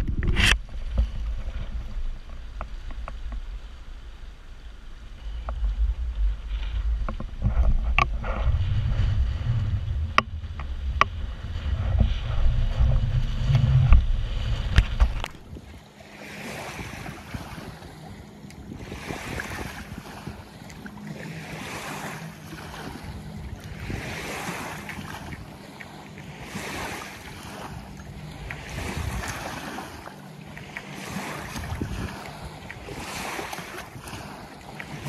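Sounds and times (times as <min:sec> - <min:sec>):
small waves lapping on shore: 0:00.0 - 0:35.0
wind on microphone: 0:00.0 - 0:35.0.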